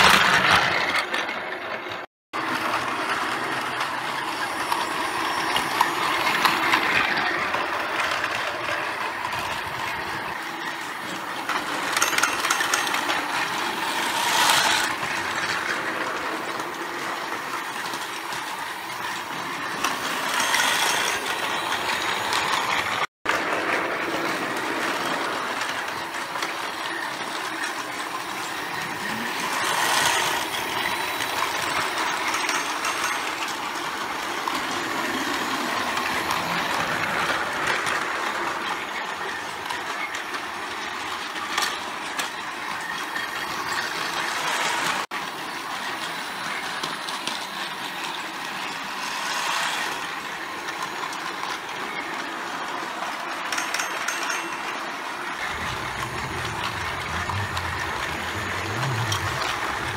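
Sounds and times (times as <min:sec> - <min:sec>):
toy train motors whirring: 0:00.0 - 0:59.9
wheels running over plastic track: 0:00.0 - 0:59.9.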